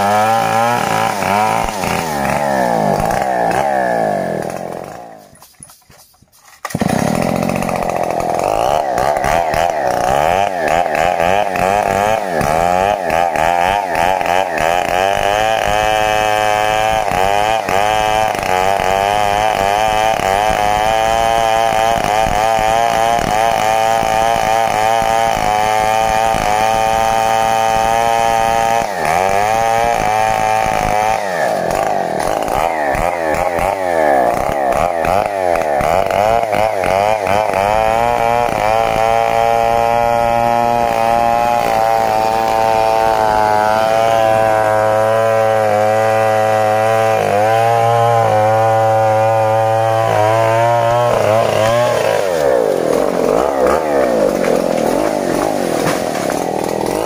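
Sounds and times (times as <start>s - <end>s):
chainsaw cutting into tree: 0.0s - 57.0s.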